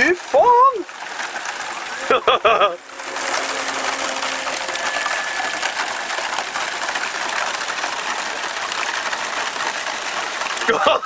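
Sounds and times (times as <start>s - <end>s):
hiss of rain and water: 0.0s - 11.0s
model plane motor running: 0.9s - 11.0s.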